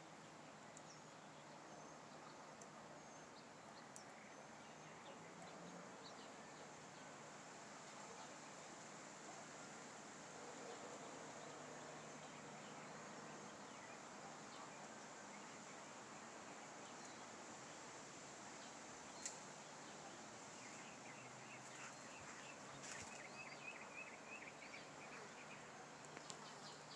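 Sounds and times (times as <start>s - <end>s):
faint outdoor hiss: 0.0s - 26.9s.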